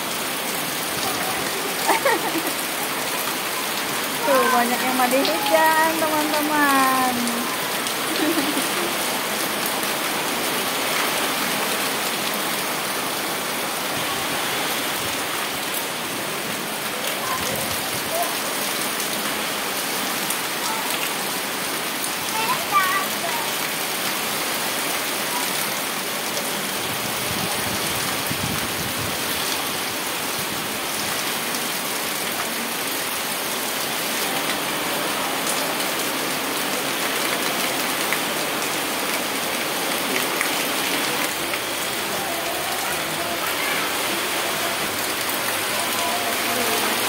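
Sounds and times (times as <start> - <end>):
rain splashing on concrete: 0.0 - 47.0.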